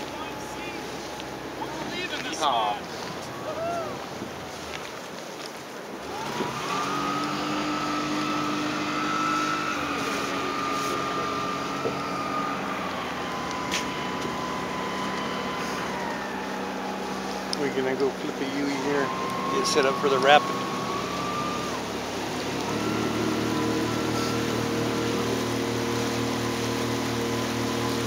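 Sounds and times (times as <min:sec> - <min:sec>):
outboard motor running: 0:00.0 - 0:28.0
water noise: 0:00.0 - 0:28.0
wind: 0:00.0 - 0:28.0.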